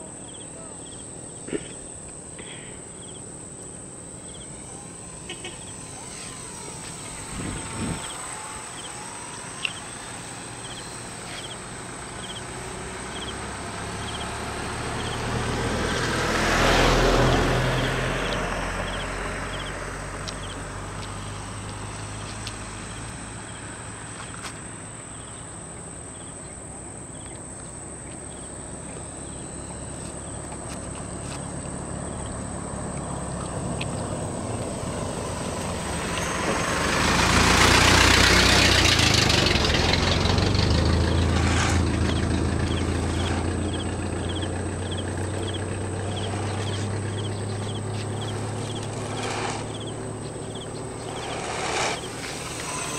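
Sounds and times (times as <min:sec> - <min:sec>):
model plane motor droning: 0:00.3 - 0:26.4, 0:27.1 - 0:52.9.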